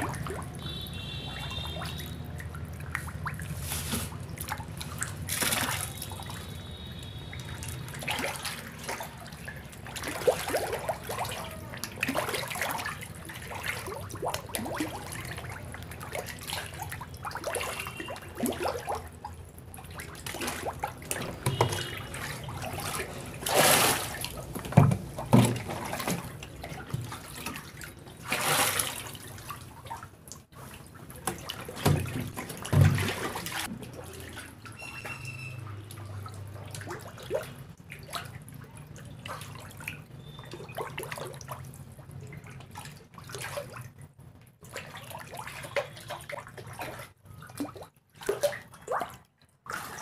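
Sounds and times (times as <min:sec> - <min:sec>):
water sloshing in pond: 0:00.0 - 0:50.0.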